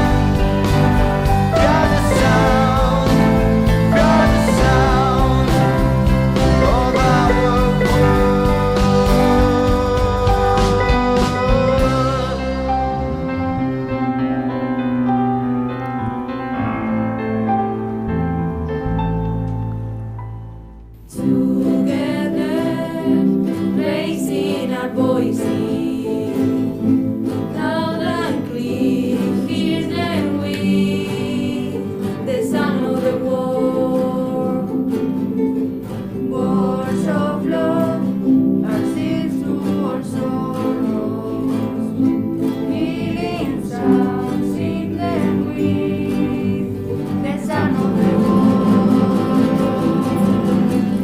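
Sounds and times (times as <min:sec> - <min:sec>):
person singing: 0:00.0 - 0:14.9, 0:21.1 - 0:51.0
plucked acoustic guitar: 0:00.0 - 0:51.0.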